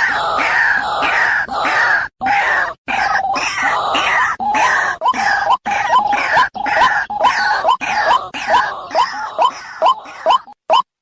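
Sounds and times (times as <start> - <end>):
noisy chorus of bird calls: 0.0 - 10.6
bird harsh croaking calls: 0.0 - 10.8.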